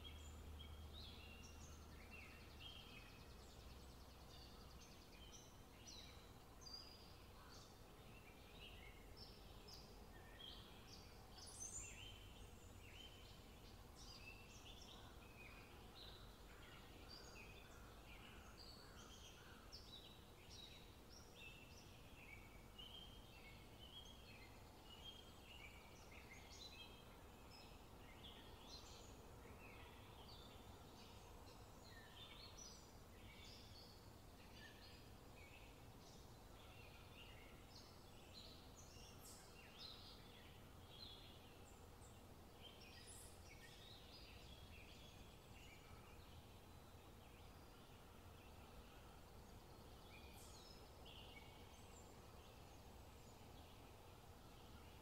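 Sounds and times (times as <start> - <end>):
low steady hiss: 0.0 - 55.0.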